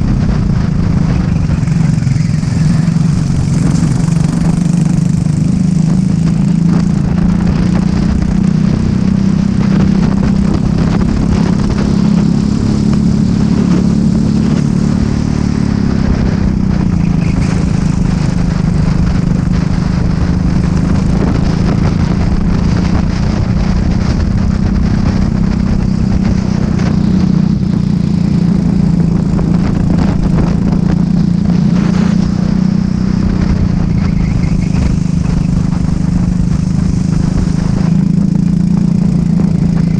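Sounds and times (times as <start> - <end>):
kart engine running: 0.0 - 39.9
road and wind noise: 0.0 - 39.9.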